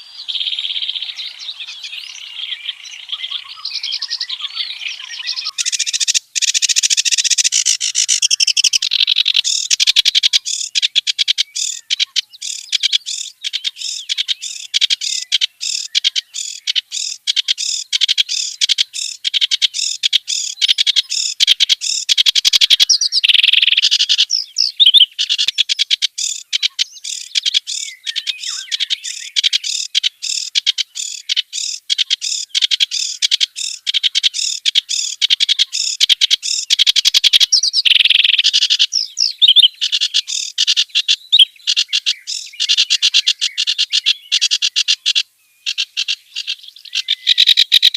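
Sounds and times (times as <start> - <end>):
reed warbler singing: 0.0 - 47.9.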